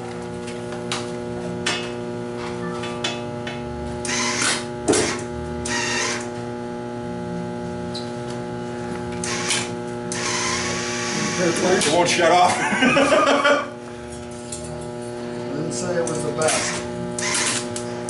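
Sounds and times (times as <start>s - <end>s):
welder transformer humming: 0.0s - 18.0s.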